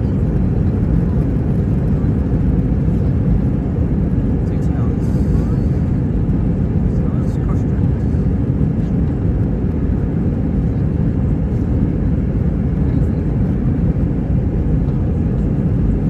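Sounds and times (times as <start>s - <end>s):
jet engines roaring in cabin: 0.0s - 16.0s.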